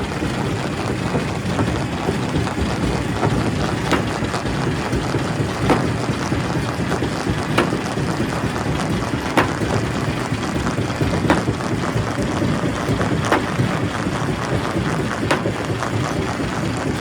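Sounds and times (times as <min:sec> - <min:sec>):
rock cracking in crusher: 0:00.0 - 0:17.0
rock crusher rumbling: 0:00.0 - 0:17.0.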